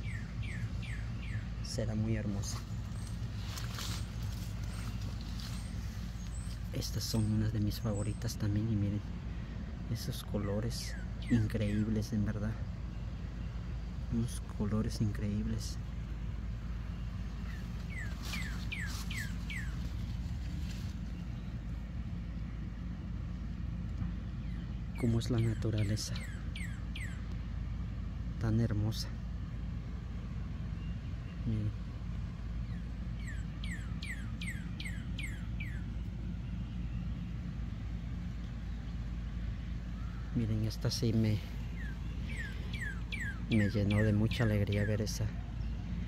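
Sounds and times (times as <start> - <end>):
bird chirping: 0.0 - 46.0
low drone: 0.0 - 46.0
steady low rumble: 0.0 - 46.0.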